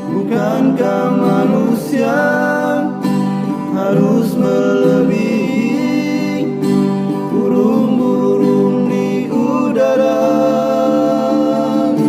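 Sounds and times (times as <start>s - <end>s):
person singing long notes: 0.0s - 6.6s, 7.2s - 12.0s
acoustic guitar: 0.0s - 12.0s.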